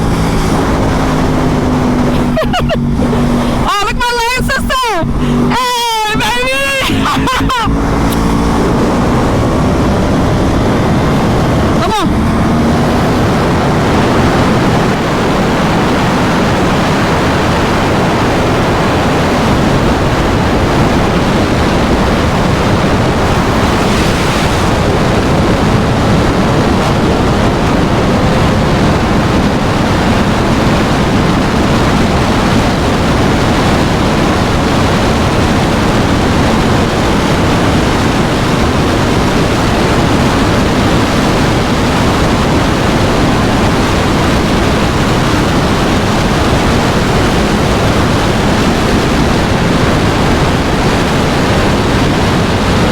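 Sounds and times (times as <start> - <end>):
motorcycle engine running: 0.0 - 52.9
wind rushing over microphone: 0.0 - 52.9.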